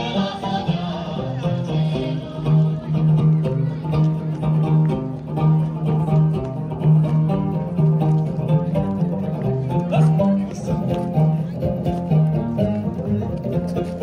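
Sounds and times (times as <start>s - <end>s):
circle-dance music: 0.0s - 14.0s
plucked string instrument: 0.0s - 14.0s.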